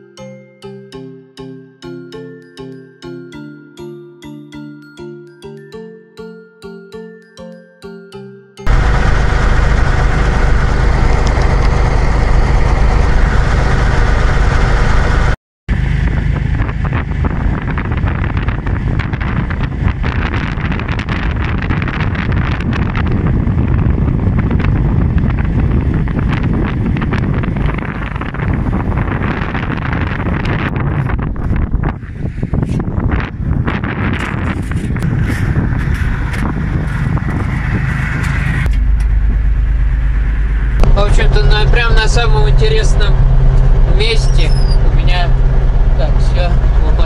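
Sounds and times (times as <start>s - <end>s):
vehicle engine running: 8.7s - 47.0s
wind noise on microphone: 8.7s - 47.0s.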